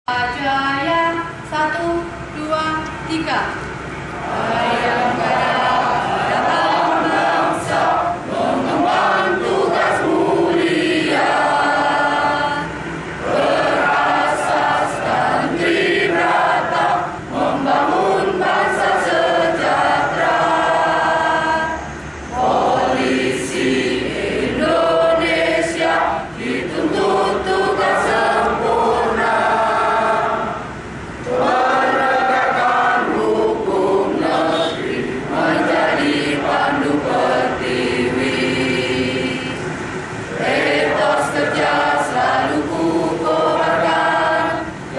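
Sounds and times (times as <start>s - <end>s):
choir singing: 4.1s - 44.9s.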